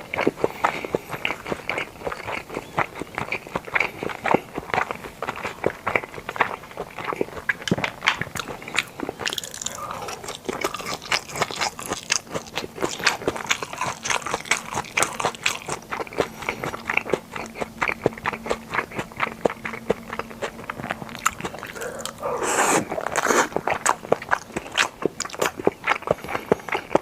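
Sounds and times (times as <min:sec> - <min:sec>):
chewing mouth sounds: 0:00.0 - 0:27.0.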